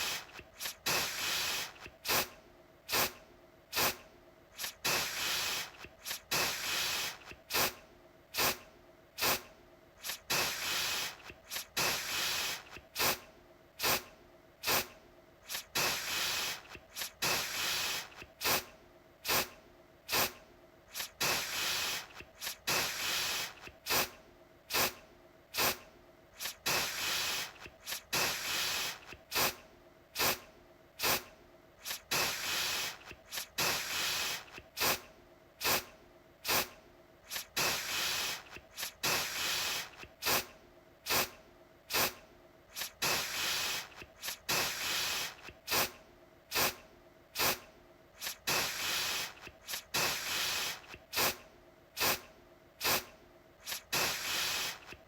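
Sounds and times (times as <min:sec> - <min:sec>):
aerosol can spraying: 0:00.0 - 0:04.0, 0:04.6 - 0:07.8, 0:08.4 - 0:08.6, 0:09.2 - 0:13.2, 0:13.8 - 0:19.5, 0:20.1 - 0:25.0, 0:25.6 - 0:25.8, 0:26.4 - 0:29.6, 0:30.2 - 0:30.4, 0:31.0 - 0:40.5, 0:41.1 - 0:46.8, 0:47.4 - 0:47.6, 0:48.2 - 0:51.4, 0:52.0 - 0:55.0.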